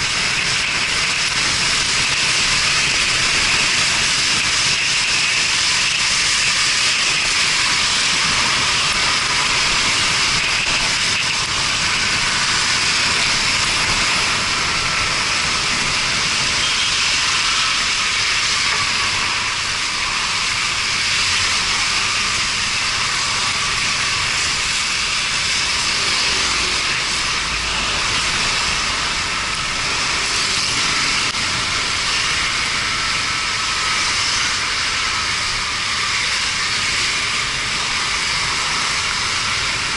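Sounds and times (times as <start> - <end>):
wet road spray: 0.0 - 39.9.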